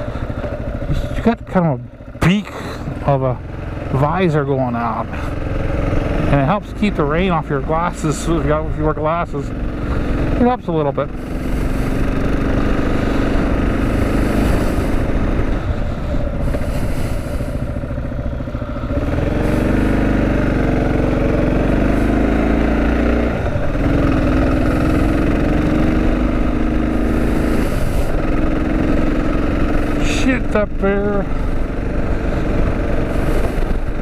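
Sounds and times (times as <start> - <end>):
motorcycle engine running: 0.0 - 34.0
wind and road noise: 0.0 - 34.0.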